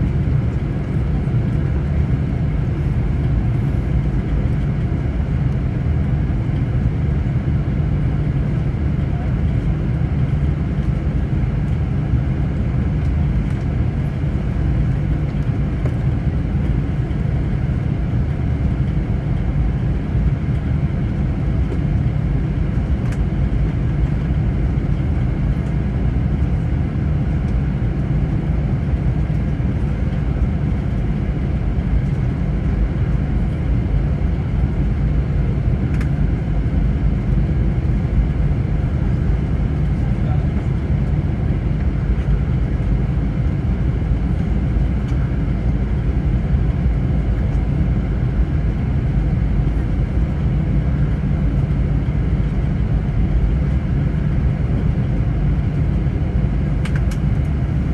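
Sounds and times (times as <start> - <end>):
airplane cabin noise: 0.0 - 57.9
jet engine rumble: 0.0 - 57.9.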